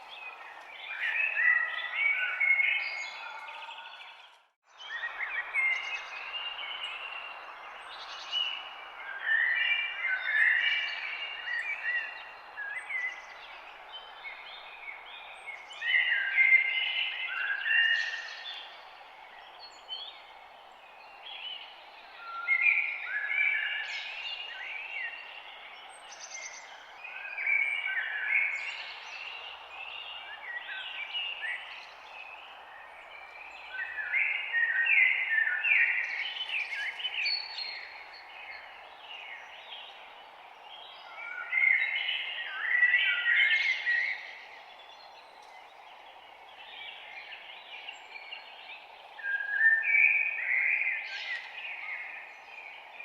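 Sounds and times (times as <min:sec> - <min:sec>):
songbirds chirping and trilling: 0:00.0 - 0:53.0
forest ambience hiss: 0:05.7 - 0:53.0.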